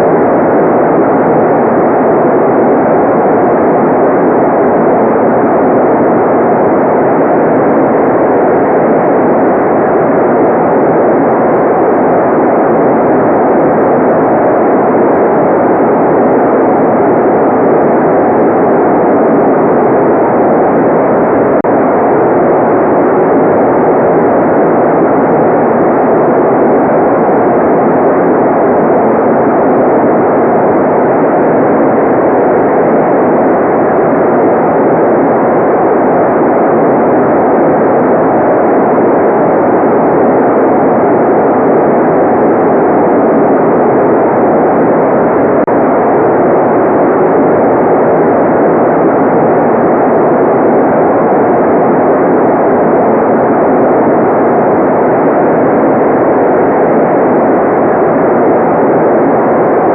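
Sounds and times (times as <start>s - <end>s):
steady white noise: 0.0s - 59.9s.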